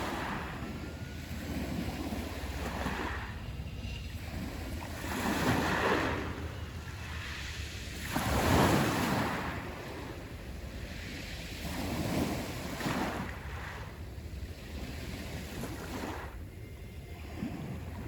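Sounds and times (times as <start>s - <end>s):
waves breaking on shore: 0.0s - 18.0s
wind rumble on microphone: 0.0s - 18.0s.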